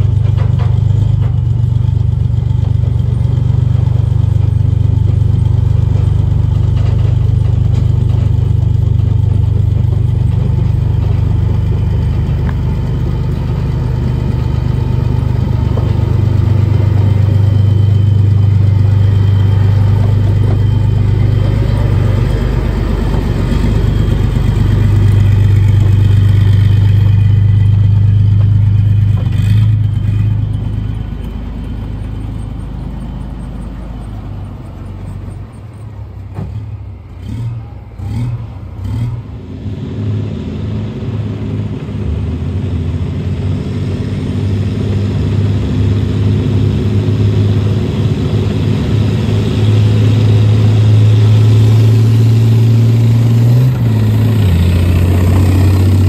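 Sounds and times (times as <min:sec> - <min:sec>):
armoured vehicle engine driving past: 0:00.0 - 0:56.0.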